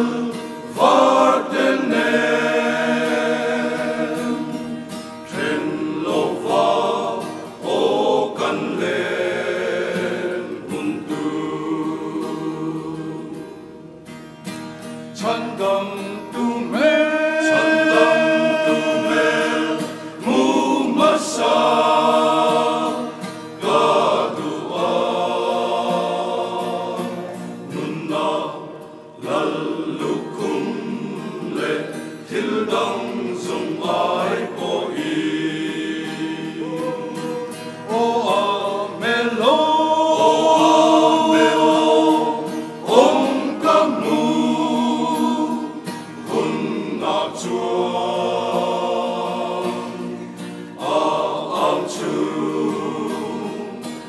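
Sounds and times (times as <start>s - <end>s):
men's choir singing a hymn: 0.0s - 13.8s, 15.1s - 54.0s
strummed acoustic guitar: 0.0s - 54.0s.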